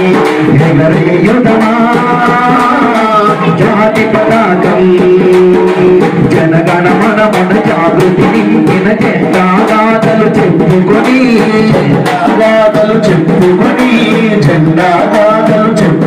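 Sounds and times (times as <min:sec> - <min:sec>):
hand drum beaten with stick: 0:00.0 - 0:16.0
men singing into microphones: 0:00.0 - 0:16.0.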